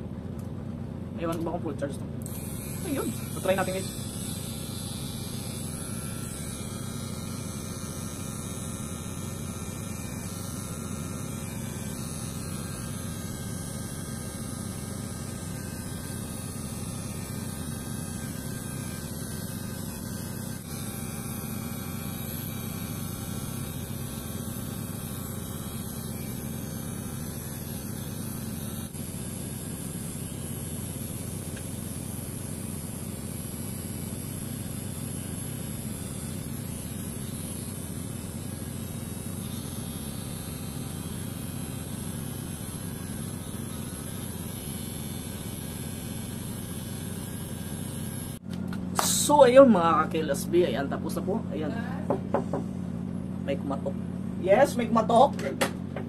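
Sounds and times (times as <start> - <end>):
electric hair trimmer buzzing: 2.2 - 56.0.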